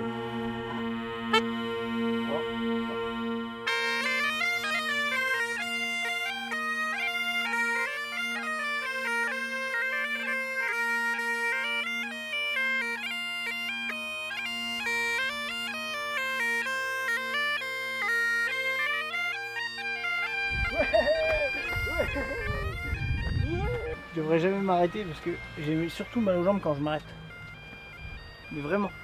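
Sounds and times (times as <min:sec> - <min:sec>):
bagpipe and bombarde tune: 0:00.0 - 0:29.0
bagpipe drone: 0:00.0 - 0:29.0.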